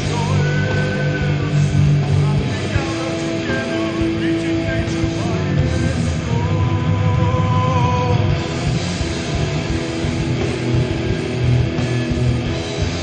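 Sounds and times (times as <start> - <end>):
distorted electric guitar: 0.0 - 13.0
heavy metal band playing: 0.0 - 13.0.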